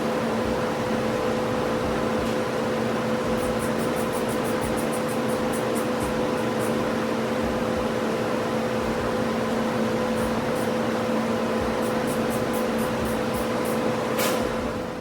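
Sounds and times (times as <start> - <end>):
machine hum with whir: 0.0 - 15.0.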